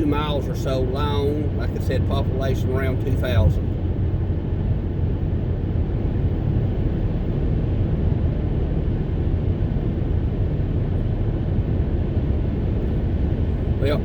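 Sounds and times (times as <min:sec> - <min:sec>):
car engine at highway speed: 0:00.0 - 0:14.0
tyre road rumble: 0:00.0 - 0:14.0.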